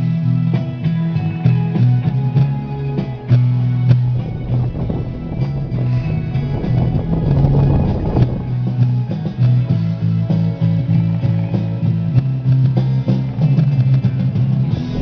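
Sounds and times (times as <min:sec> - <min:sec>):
guitar music: 0:00.0 - 0:15.0
low bass line: 0:00.0 - 0:15.0.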